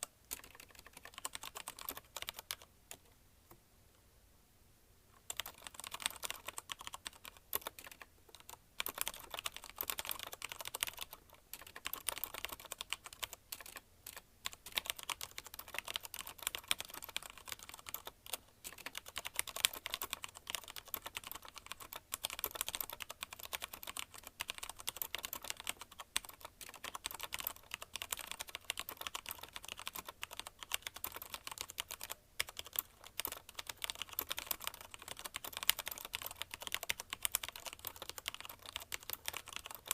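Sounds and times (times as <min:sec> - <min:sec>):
mechanical keyboard typing: 0:00.0 - 0:03.1, 0:05.3 - 0:39.9.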